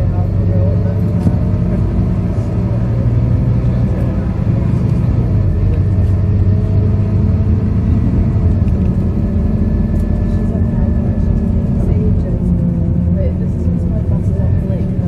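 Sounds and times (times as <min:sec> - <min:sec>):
bus diesel engine running: 0:00.0 - 0:15.0
road and tyre noise: 0:00.0 - 0:15.0.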